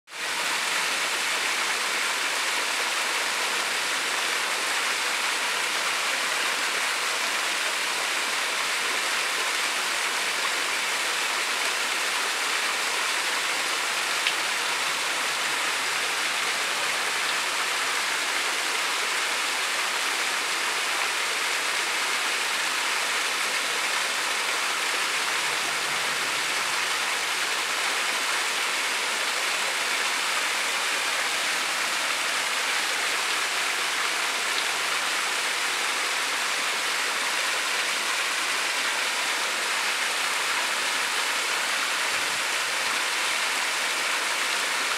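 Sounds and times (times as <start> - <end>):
small waterfall splashing: 0.1 - 44.9.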